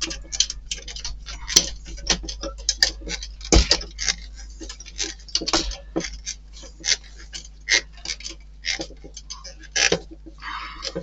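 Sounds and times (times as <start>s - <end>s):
small parts clicking and tapping: 0.0s - 11.0s.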